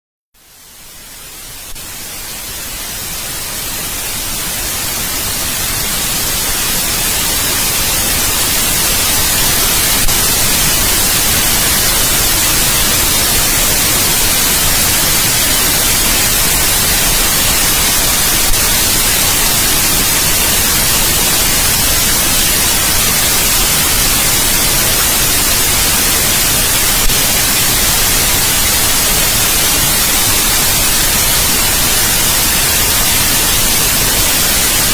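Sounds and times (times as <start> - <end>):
white noise hiss: 0.4 - 34.9.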